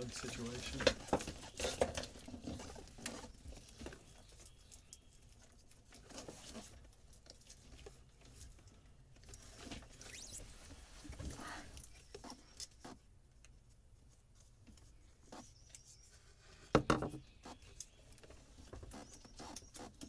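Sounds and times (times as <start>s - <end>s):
hands handling wiring and fittings: 0.0s - 20.0s.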